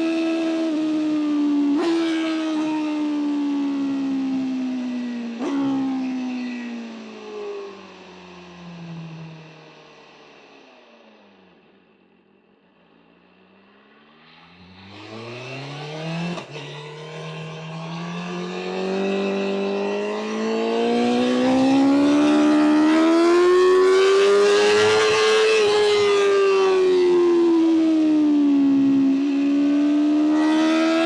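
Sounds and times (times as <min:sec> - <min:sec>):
motorcycle engine accelerating: 0:00.0 - 0:11.3, 0:13.7 - 0:31.0.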